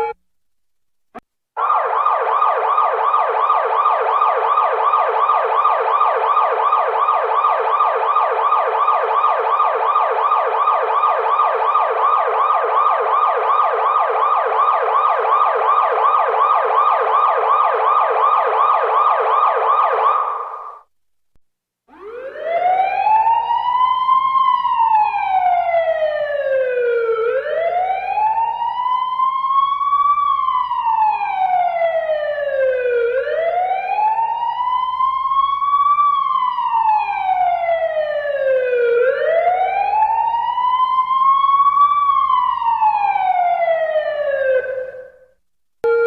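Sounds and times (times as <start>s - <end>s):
police siren wailing: 1.6s - 20.8s, 21.9s - 45.2s.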